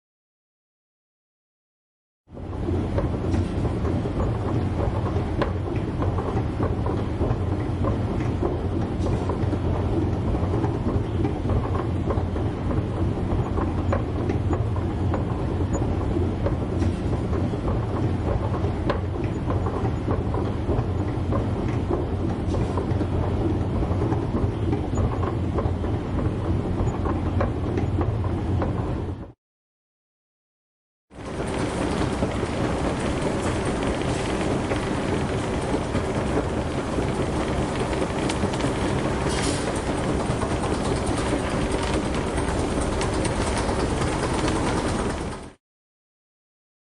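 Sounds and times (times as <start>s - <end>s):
escalator rumbling: 2.4s - 29.3s, 31.2s - 45.6s.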